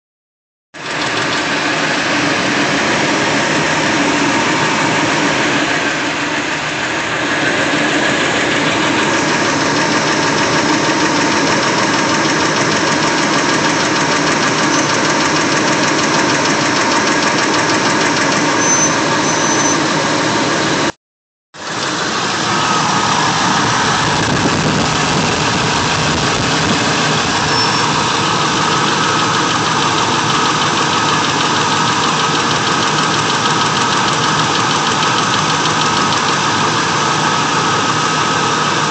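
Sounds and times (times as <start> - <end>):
engine idling with rapid tick: 0.8 - 4.8, 6.5 - 18.8, 21.6 - 38.9.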